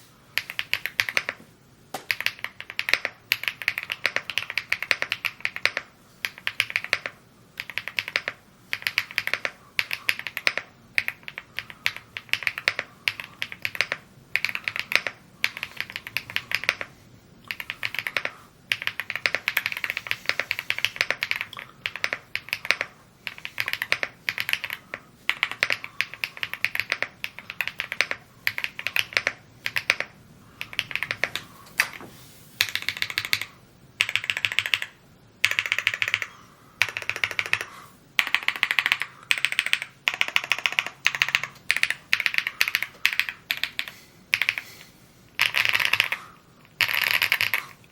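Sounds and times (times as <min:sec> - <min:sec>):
mechanical keyboard typing: 0:00.4 - 0:01.4, 0:02.0 - 0:16.9, 0:17.5 - 0:32.0, 0:32.6 - 0:44.7, 0:45.4 - 0:47.9.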